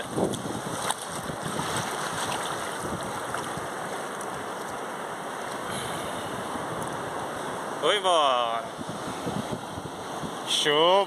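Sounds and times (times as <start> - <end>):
waves washing at water's edge: 0.0 - 11.0.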